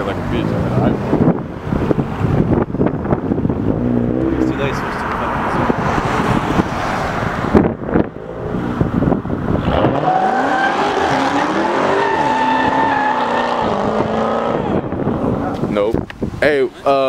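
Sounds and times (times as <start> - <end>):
car engine accelerating: 0.0 - 15.5.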